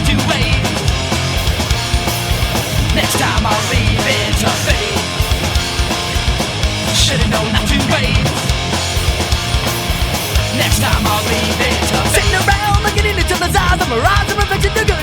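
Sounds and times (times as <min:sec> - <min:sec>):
bass guitar: 0:00.0 - 0:15.0
fast steady drums: 0:00.0 - 0:15.0
loud electric guitars: 0:00.0 - 0:15.0.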